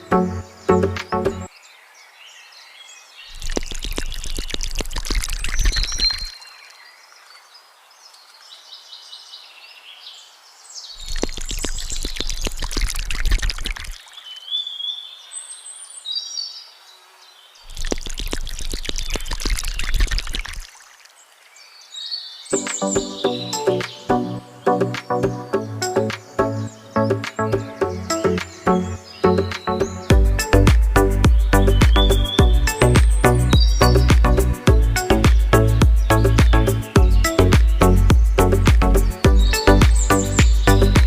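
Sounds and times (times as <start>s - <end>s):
birds chirping: 0.0s - 1.9s, 3.0s - 41.0s.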